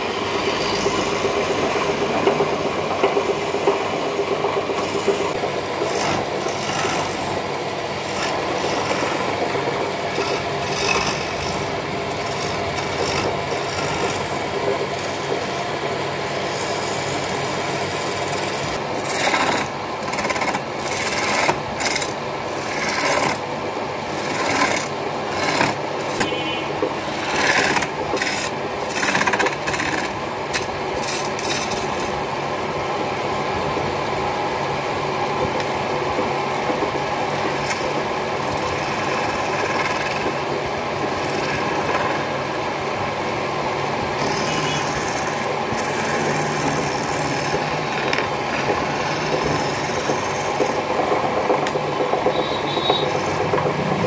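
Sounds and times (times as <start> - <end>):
wood lathe humming: 0.0 - 32.2, 37.3 - 54.0
chisel scraping spinning wood: 0.0 - 32.3, 36.7 - 42.4, 44.0 - 54.0.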